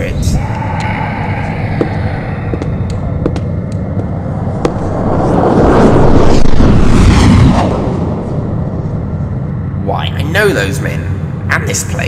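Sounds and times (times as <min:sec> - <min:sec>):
rumbling sound effect: 0:00.0 - 0:10.2.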